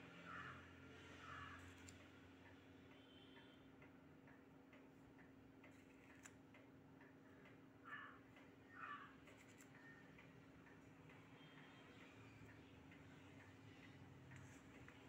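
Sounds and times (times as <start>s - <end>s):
faint regular ticking: 1.8s - 15.0s.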